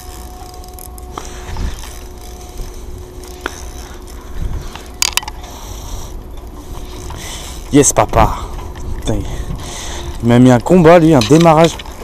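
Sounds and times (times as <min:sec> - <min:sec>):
fishing reel gears whirring: 0:00.0 - 0:12.0
reel clicks: 0:00.0 - 0:12.0
wind rumble on microphone: 0:01.4 - 0:03.2, 0:04.2 - 0:12.0.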